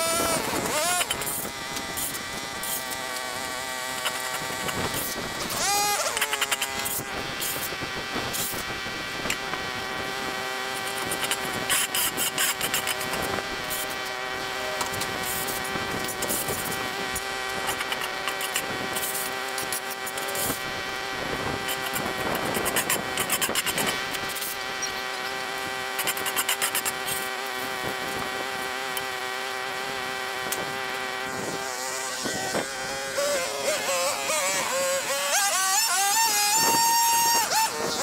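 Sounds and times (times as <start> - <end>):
small gas engine running: 0.0 - 38.0.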